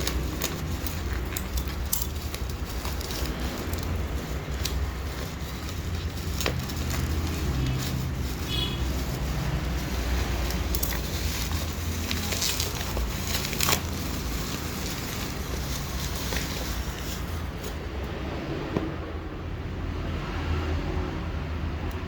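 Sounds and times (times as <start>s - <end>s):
packaging clicks and scrapes: 0.0s - 18.1s.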